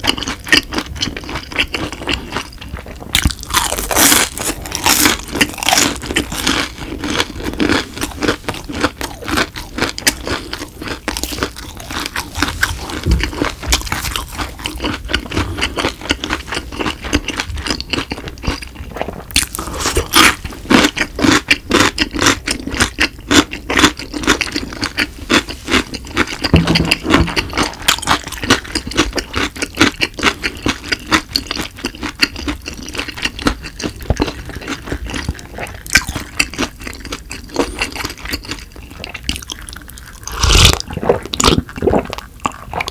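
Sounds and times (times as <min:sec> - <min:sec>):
chewing with wet clicking: 0:00.0 - 0:42.9
crunching pickled radish: 0:00.0 - 0:42.9.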